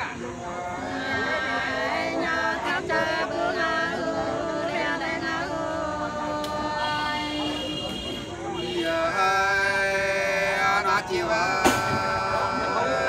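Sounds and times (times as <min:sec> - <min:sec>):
unaccompanied voices singing folk song: 0:00.0 - 0:13.0.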